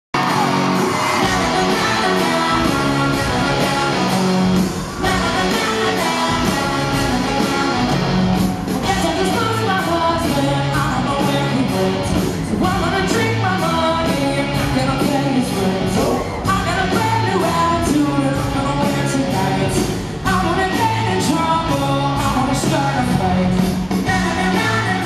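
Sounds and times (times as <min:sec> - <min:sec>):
person singing: 0:00.2 - 0:08.1, 0:08.8 - 0:25.0
live rock band playing: 0:00.2 - 0:25.0.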